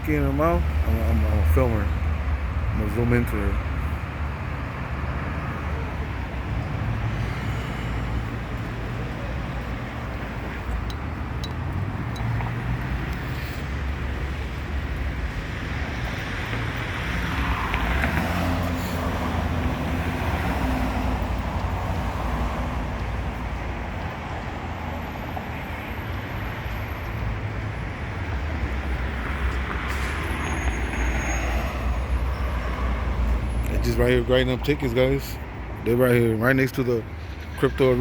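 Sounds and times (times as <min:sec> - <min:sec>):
engine rumble of traffic: 0:00.0 - 0:38.0
tyre noise from passing cars: 0:00.0 - 0:38.0.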